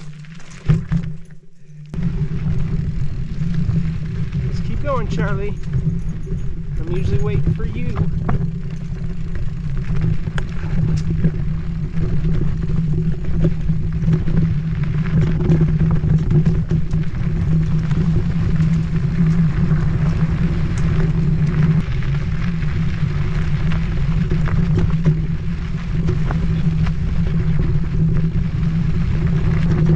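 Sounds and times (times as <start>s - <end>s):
bike ticks and rattles: 0.0s - 29.9s
tyres rumbling on dirt: 0.0s - 29.9s.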